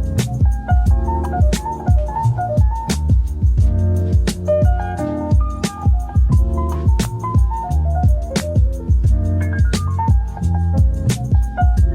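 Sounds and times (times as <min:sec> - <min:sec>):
background music with beat: 0:00.0 - 0:11.9.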